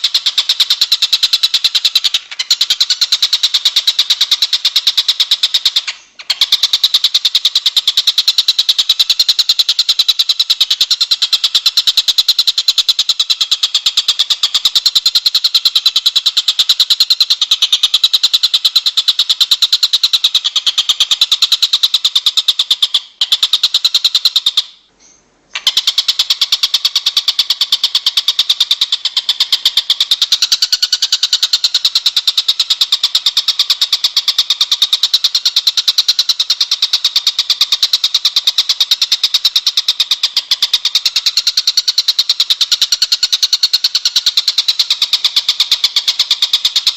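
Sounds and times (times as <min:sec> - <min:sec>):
rapid high-pitched bird chirps: 0:00.0 - 0:46.9
songbird rapid trill: 0:00.0 - 0:46.9.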